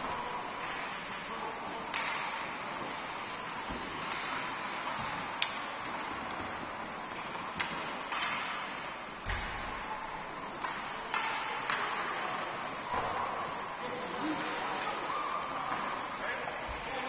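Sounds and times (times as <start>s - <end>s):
hockey sticks and puck clacking: 0.0s - 14.8s.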